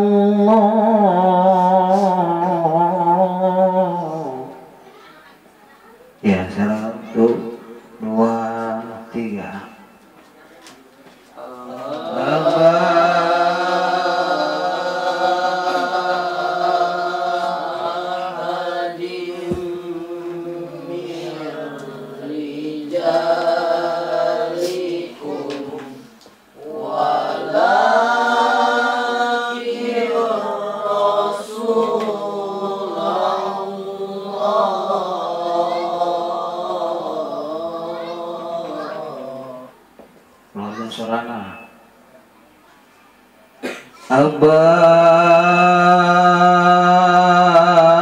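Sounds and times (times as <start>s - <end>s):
person reciting in melodic chant: 0.0s - 5.0s, 6.2s - 9.9s, 11.4s - 39.8s, 44.0s - 48.0s.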